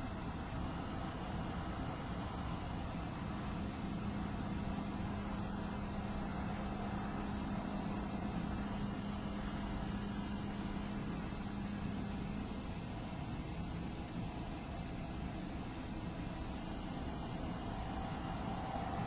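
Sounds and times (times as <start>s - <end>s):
hard drive whine: 0.0s - 19.0s
low steady hum: 0.0s - 19.0s
room hiss and hum: 0.0s - 19.0s.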